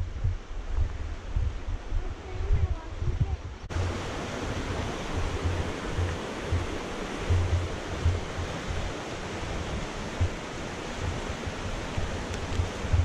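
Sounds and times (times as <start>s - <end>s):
creek rushing over rocks: 0.0s - 13.0s
wind buffeting microphone: 0.0s - 13.0s.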